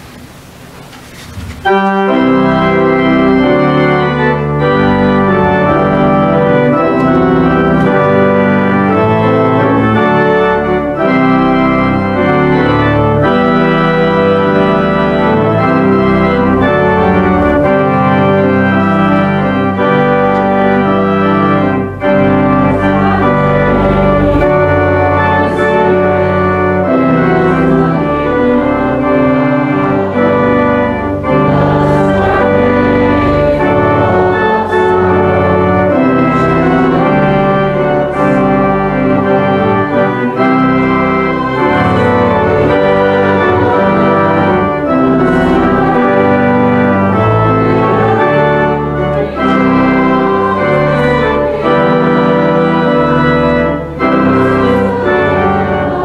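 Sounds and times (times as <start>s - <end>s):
organ playing a hymn: 0.0s - 56.0s.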